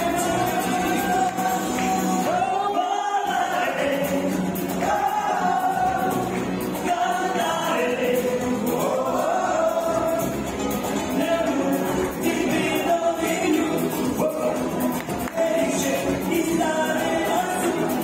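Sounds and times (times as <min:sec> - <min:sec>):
several voices singing together: 0:00.0 - 0:18.0.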